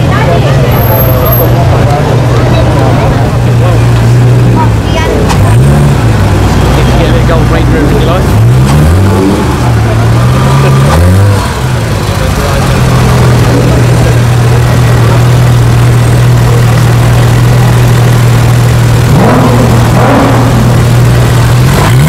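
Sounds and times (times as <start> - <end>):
sports car engine revving and idling: 0.0 - 22.0.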